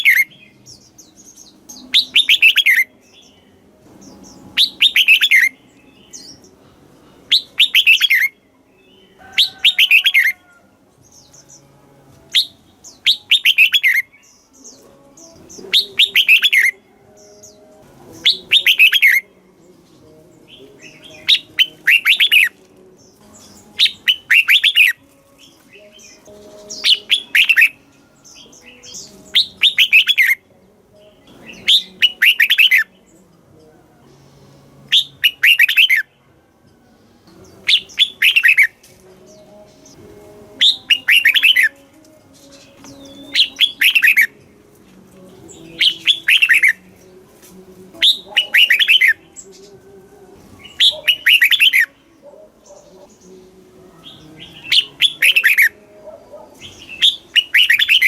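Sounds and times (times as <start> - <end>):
bird singing: 0.0 - 58.0.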